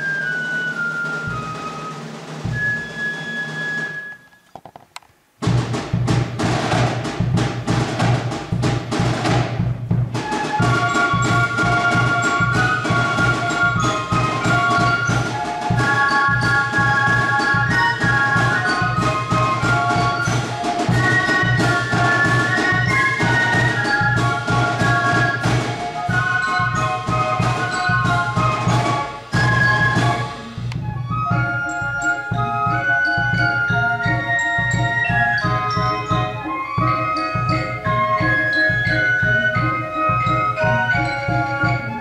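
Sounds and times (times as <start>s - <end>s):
flutes playing high melody: 0.0s - 4.4s, 10.2s - 42.0s
drum beat: 5.4s - 42.0s.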